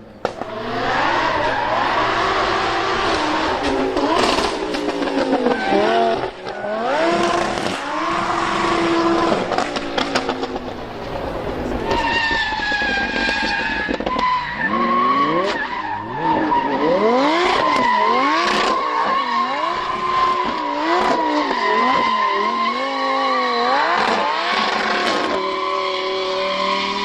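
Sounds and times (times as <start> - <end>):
car engine revving: 0.0 - 27.0
tyre squeal: 0.4 - 10.5, 11.7 - 27.0.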